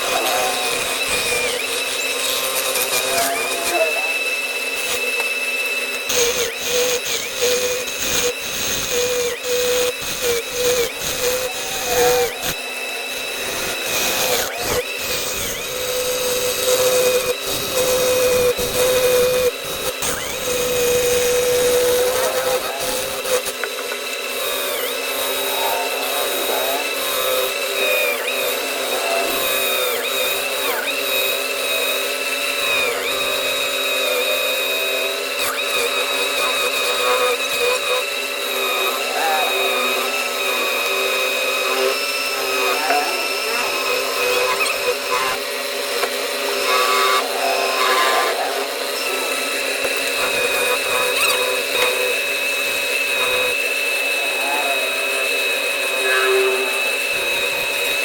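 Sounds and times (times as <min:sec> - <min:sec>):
machine spindle whine: 0:00.0 - 0:58.0
rough cutting noise with clicks: 0:00.0 - 0:58.0.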